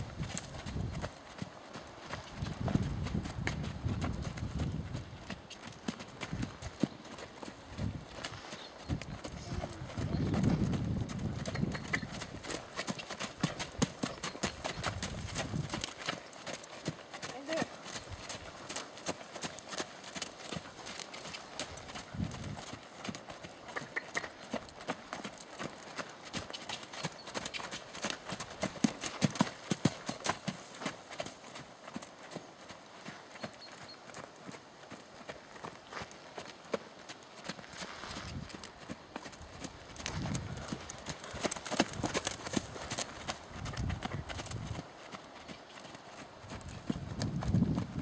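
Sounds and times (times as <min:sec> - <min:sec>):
horse hoofbeats on sand: 0:00.0 - 0:48.0.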